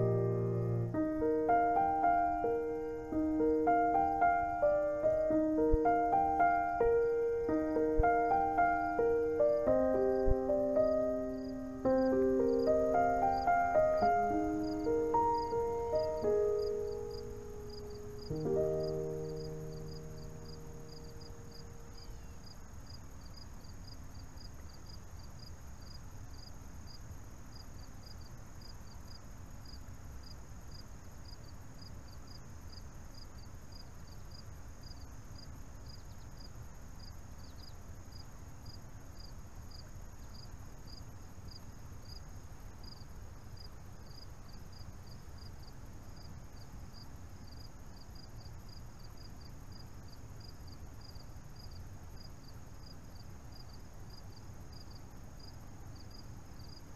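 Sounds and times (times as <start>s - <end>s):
crickets chirping: 0.0s - 56.9s
high insect trill: 0.0s - 56.9s.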